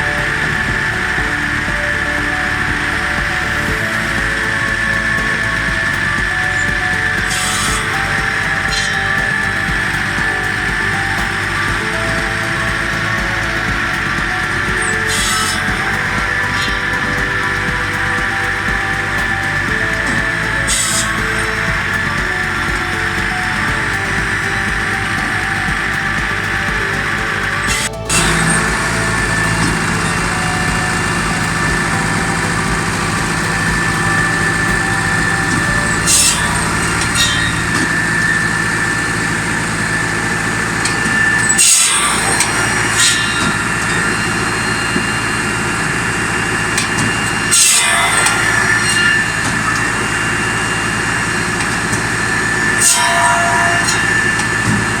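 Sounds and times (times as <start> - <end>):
log saw running: 0.0 - 55.0
tractor engine: 0.0 - 55.0.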